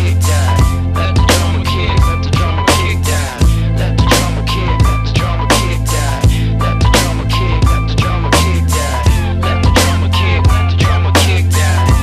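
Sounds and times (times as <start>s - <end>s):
deep bass: 0.0s - 12.0s
rock music: 0.0s - 12.0s
steady drum beat: 0.0s - 12.0s.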